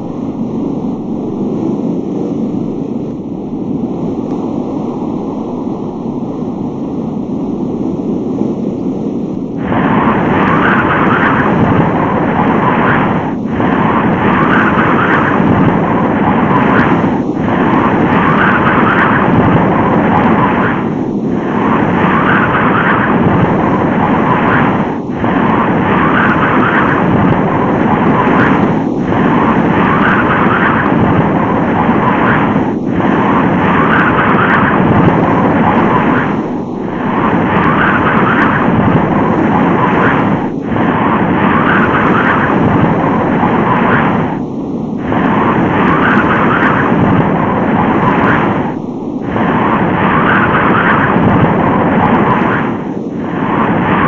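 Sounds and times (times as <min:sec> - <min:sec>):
loud rushing wind: 0:00.0 - 0:54.0.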